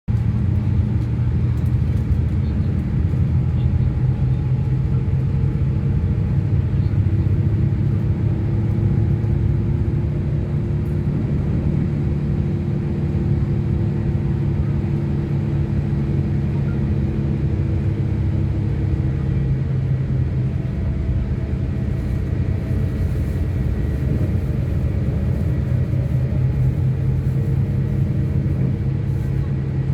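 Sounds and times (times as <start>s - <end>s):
vehicle rumble and hum: 0.1s - 29.9s.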